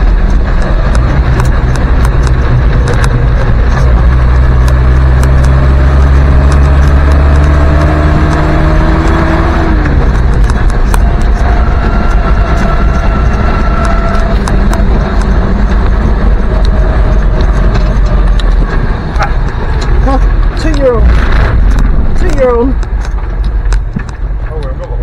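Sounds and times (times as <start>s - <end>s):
engine drone inside vehicle: 0.0s - 25.0s
whine: 0.0s - 25.0s.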